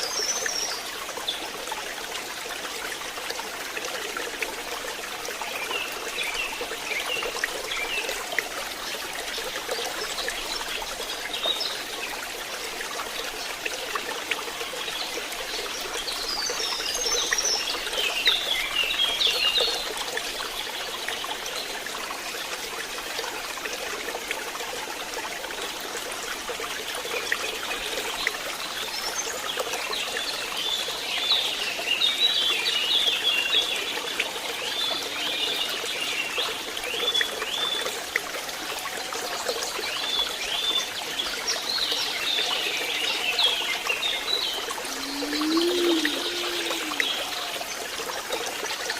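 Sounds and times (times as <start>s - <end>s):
stream water trickling: 0.0s - 48.9s.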